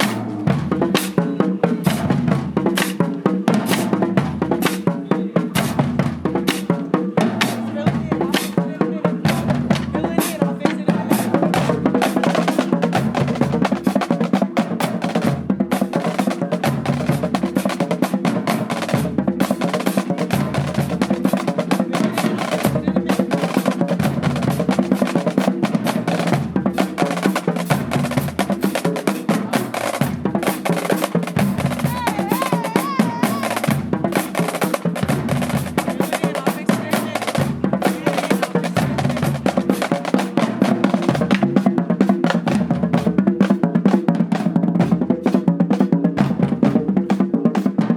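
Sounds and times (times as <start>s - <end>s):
snare drum rolls: 0.0s - 47.9s.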